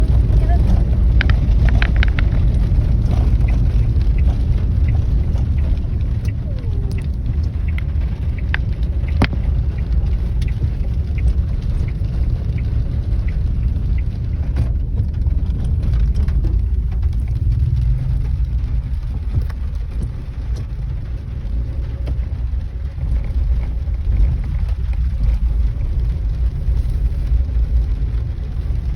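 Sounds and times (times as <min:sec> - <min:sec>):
rain falling: 0:00.0 - 0:28.9
steady low rumble: 0:00.0 - 0:28.9
sharp drip clicks: 0:00.1 - 0:28.7.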